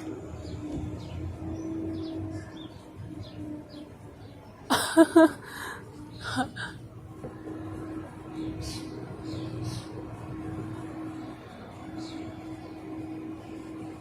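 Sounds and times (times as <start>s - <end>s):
birds chirping: 0.0s - 14.0s
faint steady hum: 0.0s - 14.0s.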